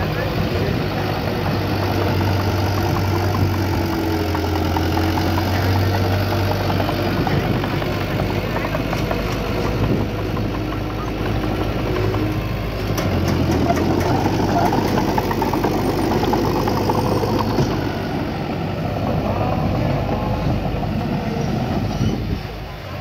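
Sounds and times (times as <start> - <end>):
diesel machinery engine running: 0.0 - 23.0.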